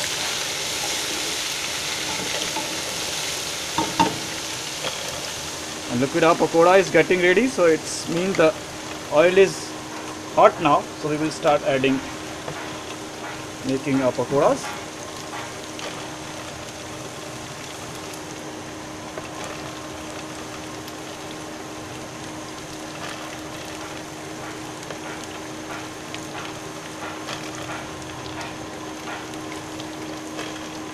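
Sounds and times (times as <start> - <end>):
food deep-frying in oil: 0.0 - 30.9.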